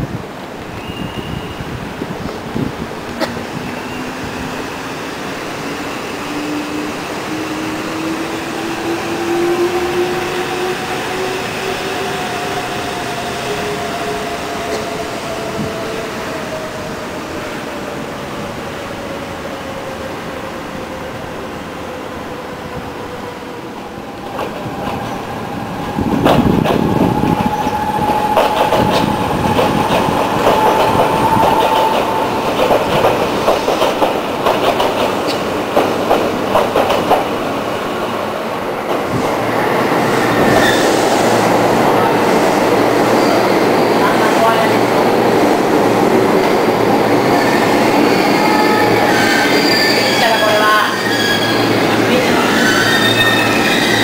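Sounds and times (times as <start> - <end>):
electric train on rails: 0.0 - 54.0.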